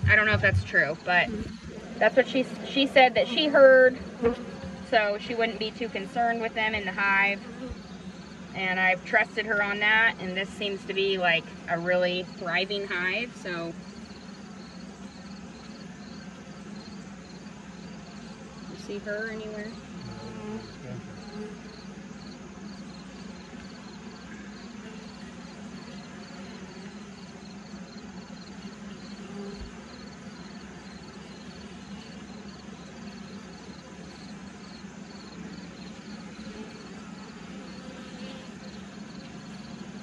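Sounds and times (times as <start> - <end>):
high insect chirp: 0.0 - 40.0
honeybees humming: 0.0 - 40.0.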